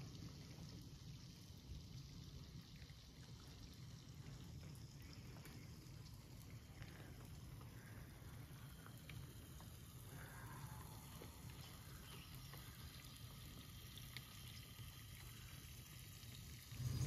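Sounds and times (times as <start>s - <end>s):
light hiss: 0.0s - 17.0s
low steady rumble: 0.0s - 17.0s.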